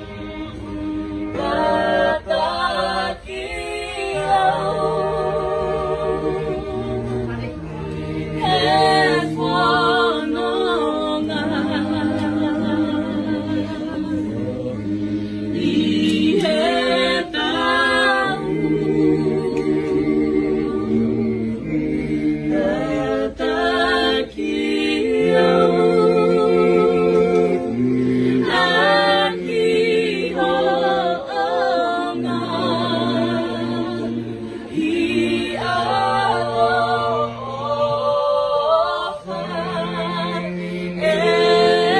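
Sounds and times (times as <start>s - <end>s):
group singing a hymn a cappella: 0.0s - 41.9s.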